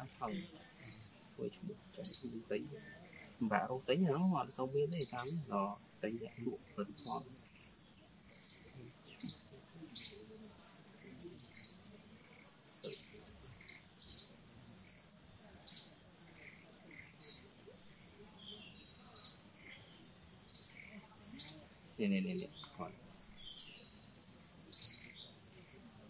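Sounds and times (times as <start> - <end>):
bird chirping: 0.0 - 25.8
faint high insect hum: 0.0 - 26.0.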